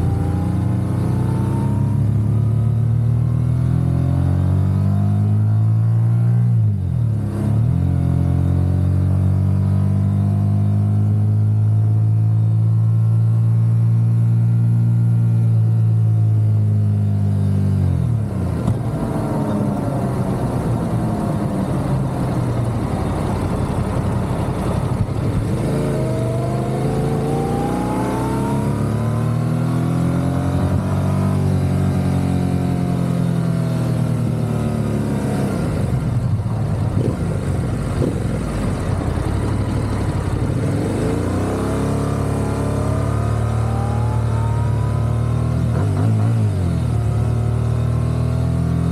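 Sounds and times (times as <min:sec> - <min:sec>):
motorcycle engine revving: 0:00.0 - 0:11.8, 0:16.6 - 0:48.9
road noise: 0:00.0 - 0:48.9.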